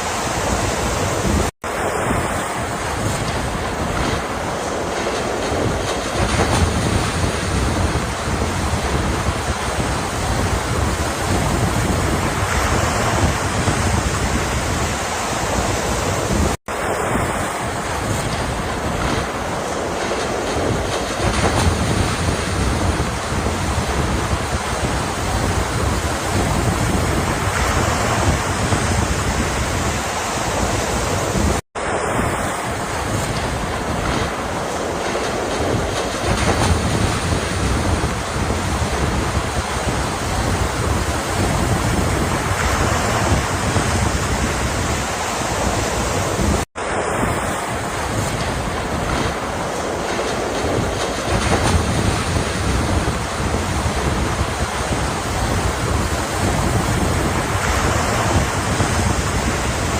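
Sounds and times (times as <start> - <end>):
ocean waves washing in: 0.0 - 59.9
wind rumbling on microphone: 0.0 - 59.9.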